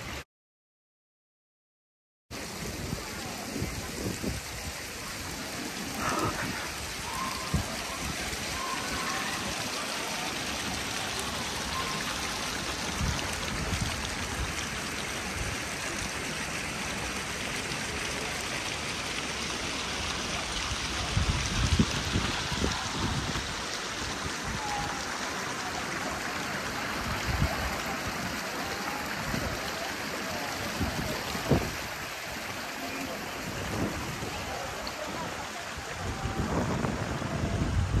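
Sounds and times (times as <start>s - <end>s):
falling water hiss: 2.4s - 38.0s.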